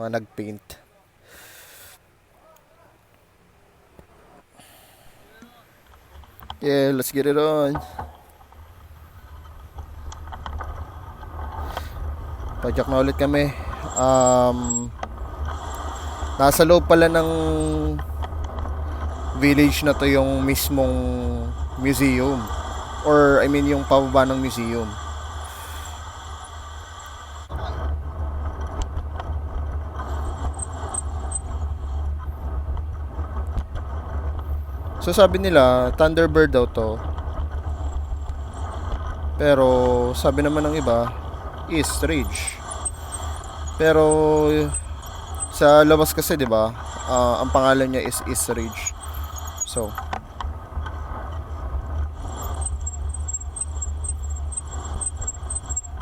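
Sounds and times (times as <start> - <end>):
bicycle road noise: 0.0 - 56.0
wind rumbling on microphone: 7.7 - 56.0.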